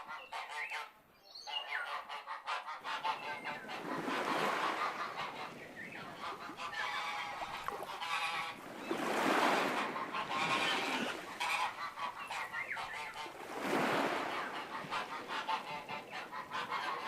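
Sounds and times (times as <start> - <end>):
geese honking: 1.5 - 17.0.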